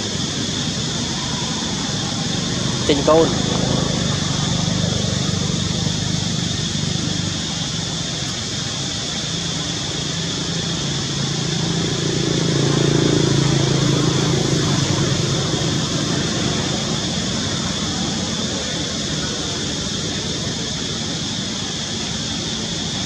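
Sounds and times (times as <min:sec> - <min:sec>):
passing motor vehicle engine: 0:00.0 - 0:23.0
steady high buzz: 0:00.0 - 0:23.0.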